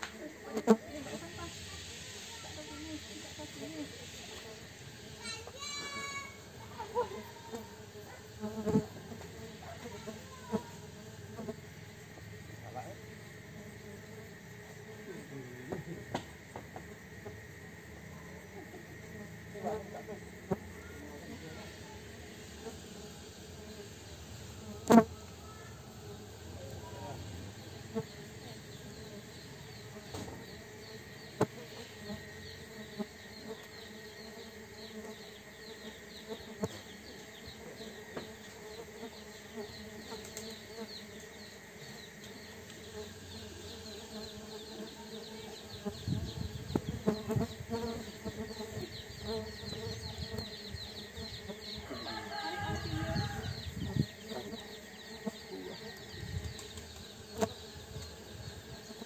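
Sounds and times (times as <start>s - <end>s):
bees buzzing: 0.0s - 59.0s
insect chirping: 0.0s - 59.0s.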